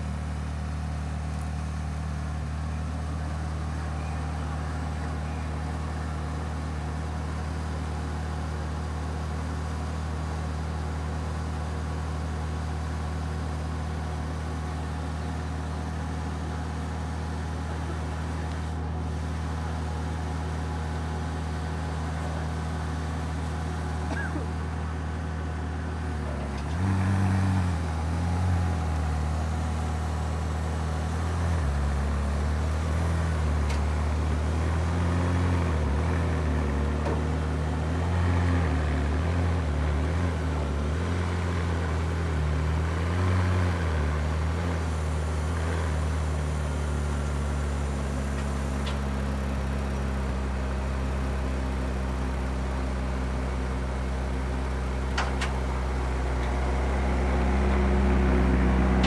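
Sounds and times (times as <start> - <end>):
vehicle engine at low revs: 0.0 - 59.0.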